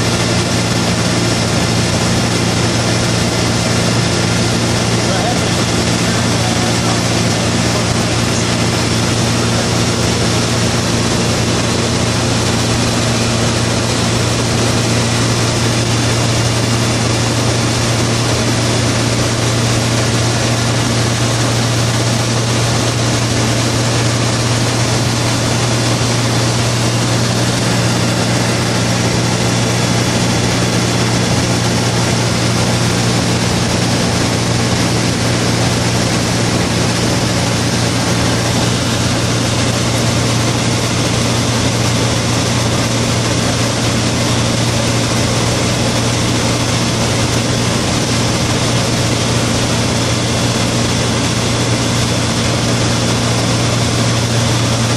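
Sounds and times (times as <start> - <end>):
aircraft engine and propeller drone: 0.0 - 54.9.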